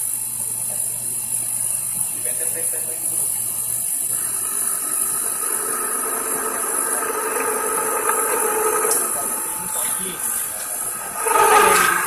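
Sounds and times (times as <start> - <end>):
lathe running with high hiss: 0.0 - 12.0
steady machine tone: 0.0 - 12.0.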